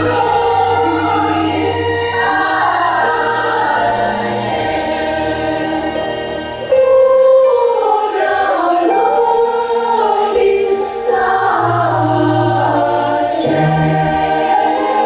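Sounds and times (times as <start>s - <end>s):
children's choir singing: 0.0s - 15.0s
string orchestra: 0.0s - 15.0s.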